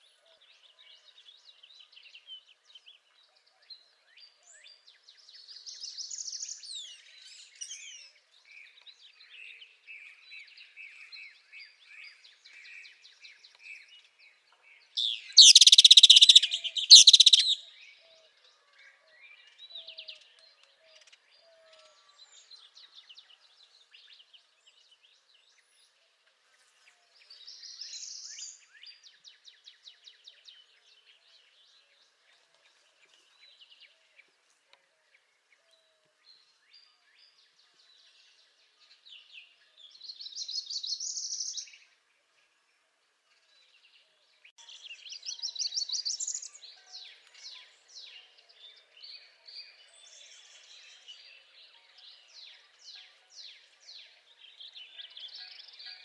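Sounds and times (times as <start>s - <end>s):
bird singing high-pitched song: 0.0s - 25.9s, 27.2s - 32.3s, 35.6s - 41.9s, 43.4s - 56.0s
songbirds chirping and trilling: 0.0s - 56.0s.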